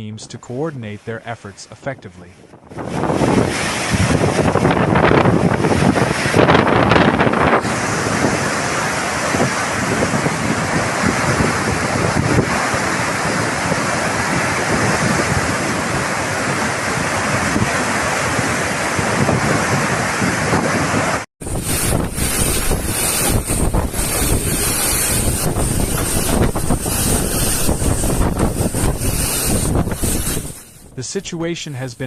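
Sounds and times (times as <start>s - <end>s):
rush of wind and water: 0.0s - 32.0s
wind buffeting microphone: 2.4s - 31.5s.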